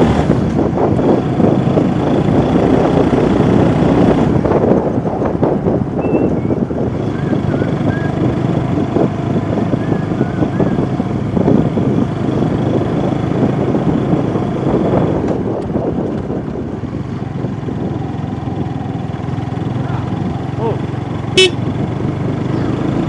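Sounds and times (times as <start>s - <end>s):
motorbike engine: 0.0s - 23.0s
road noise: 0.0s - 23.0s
wind on microphone: 0.0s - 23.0s.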